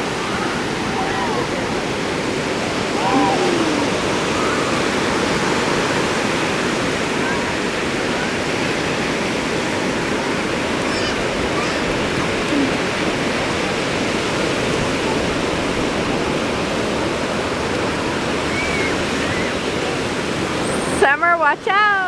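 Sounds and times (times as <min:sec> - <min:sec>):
ocean surf washing: 0:00.0 - 0:22.0.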